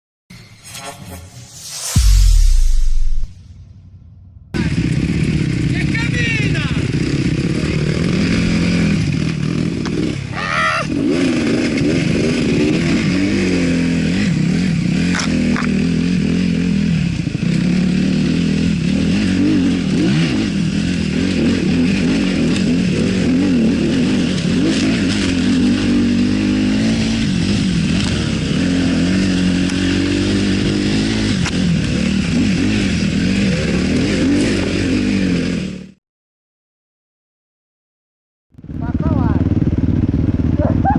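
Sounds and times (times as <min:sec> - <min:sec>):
motorcycle engine revving: 0:00.6 - 0:36.0, 0:38.5 - 0:40.9.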